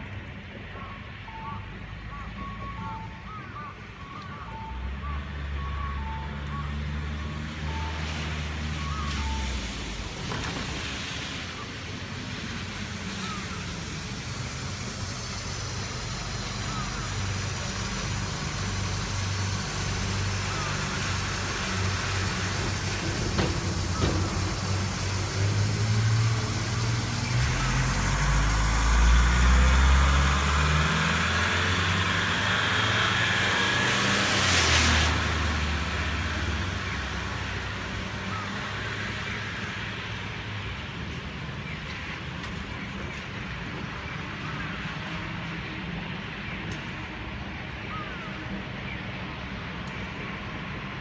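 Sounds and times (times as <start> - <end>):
truck diesel engine rumbling: 0.0 - 44.8
tyres hissing on wet road: 1.1 - 51.0.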